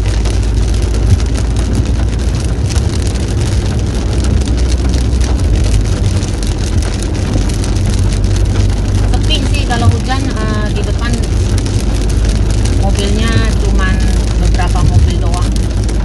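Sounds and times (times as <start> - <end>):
rain pattering on a car: 0.0 - 16.0
road and engine rumble: 0.0 - 16.0.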